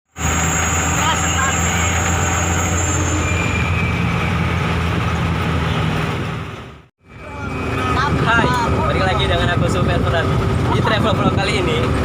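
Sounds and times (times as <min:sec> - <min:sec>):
road rumble: 0:00.1 - 0:12.0
vehicle engine hum: 0:00.1 - 0:12.0.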